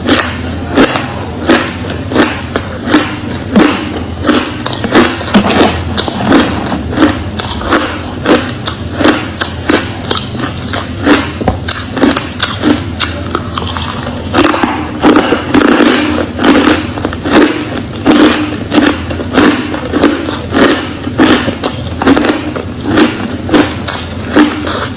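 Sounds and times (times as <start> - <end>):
ice being chewed: 0.0 - 24.9.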